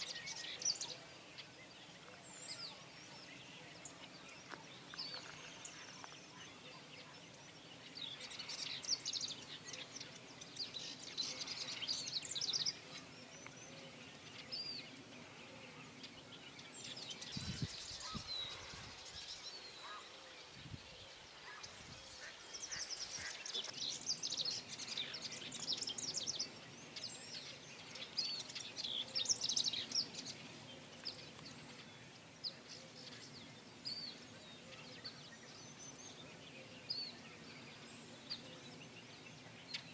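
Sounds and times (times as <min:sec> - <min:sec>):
flock of birds calling: 0:00.0 - 0:37.9.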